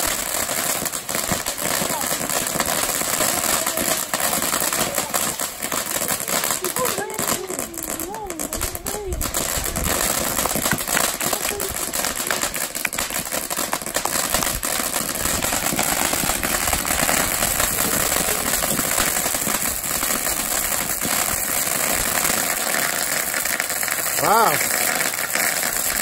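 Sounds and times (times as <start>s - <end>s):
fountain firework hissing and crackling: 0.0s - 26.0s.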